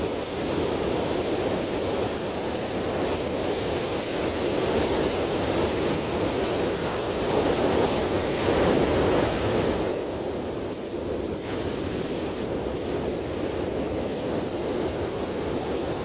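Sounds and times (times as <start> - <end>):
surf washing onto beach: 0.0 - 16.0
wind on microphone: 0.0 - 16.0.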